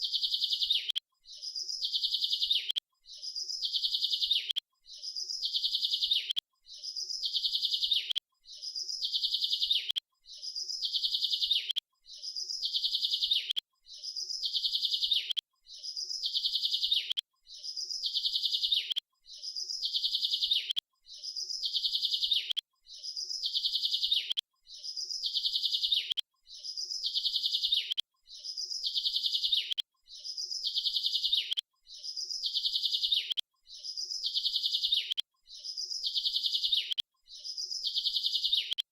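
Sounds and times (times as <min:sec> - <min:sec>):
bird twittering: 0:00.0 - 0:38.8.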